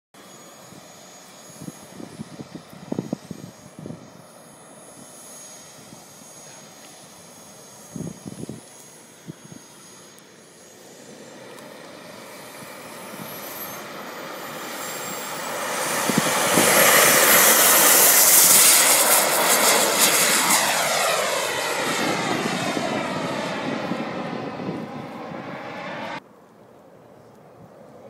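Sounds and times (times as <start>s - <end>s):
model jet turbine whine: 0.2s - 26.2s.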